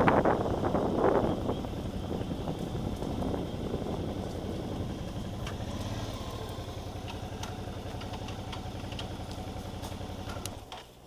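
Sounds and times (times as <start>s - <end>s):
motorcycle engine slowing to idle: 0.0s - 11.0s.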